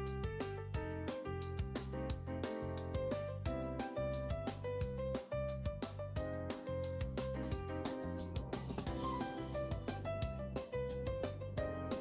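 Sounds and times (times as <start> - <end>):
steady bass line: 0.0 - 12.0.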